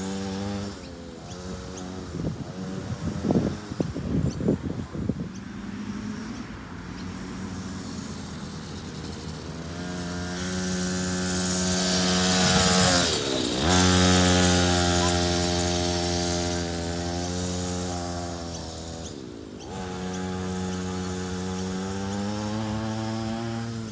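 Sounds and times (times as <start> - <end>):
quad bike engine: 0.0 - 23.9.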